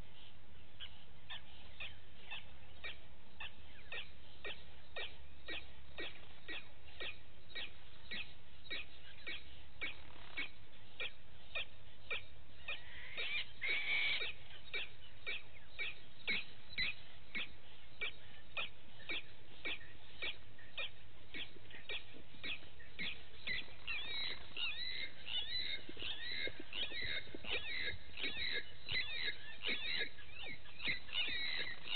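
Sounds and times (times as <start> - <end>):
chirping bird notes: 0.8 - 31.9.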